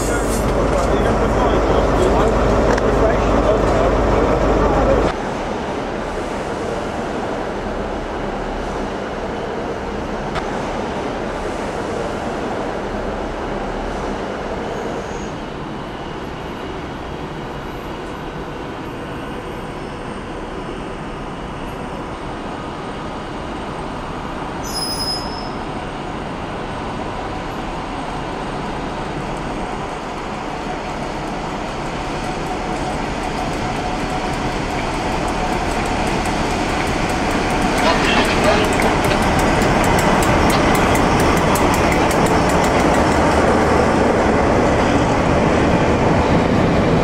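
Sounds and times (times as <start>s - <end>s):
diesel locomotive rumbling: 0.0s - 19.5s, 20.5s - 47.0s.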